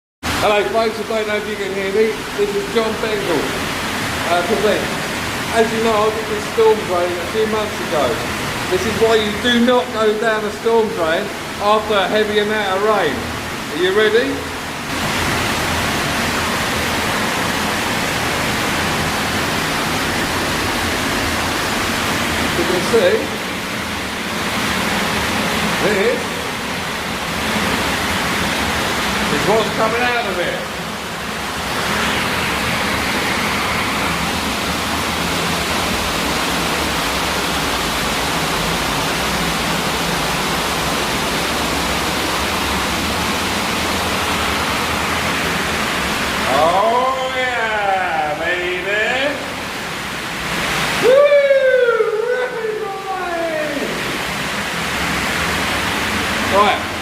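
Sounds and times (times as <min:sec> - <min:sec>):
rainwater rushing through drain: 0:00.2 - 0:57.0.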